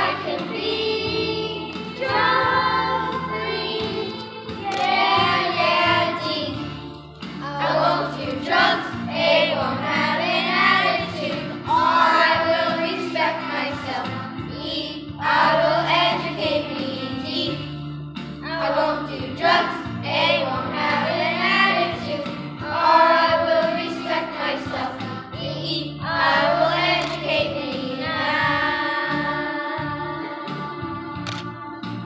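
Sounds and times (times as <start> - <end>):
children's choir singing: 0.0 - 17.6, 18.4 - 32.0
instrumental accompaniment: 0.0 - 32.0.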